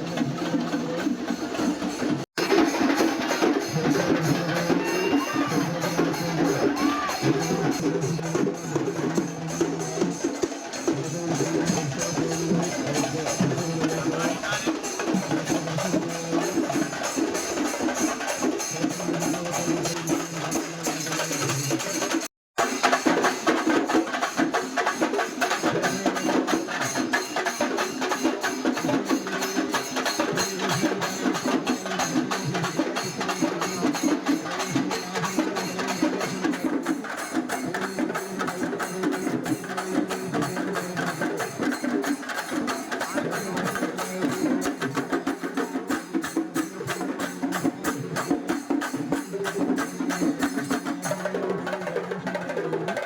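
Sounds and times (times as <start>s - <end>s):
fast drum strokes: 0.0s - 53.0s.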